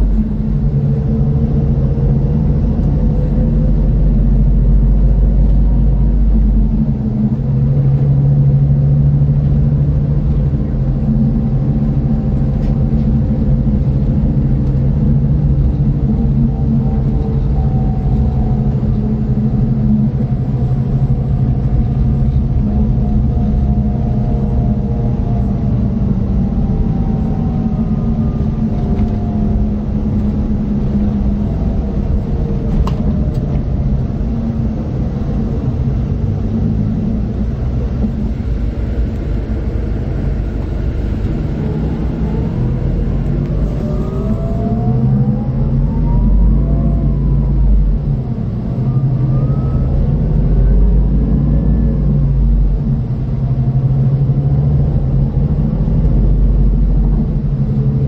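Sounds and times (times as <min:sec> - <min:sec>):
diesel engine running with whine: 0:00.0 - 0:58.0.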